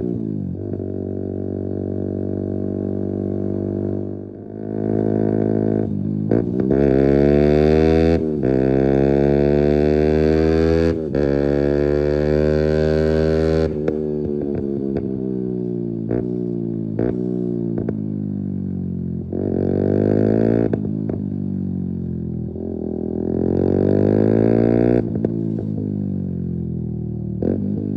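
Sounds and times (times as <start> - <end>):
motorcycle engine accelerating: 0.0 - 27.9.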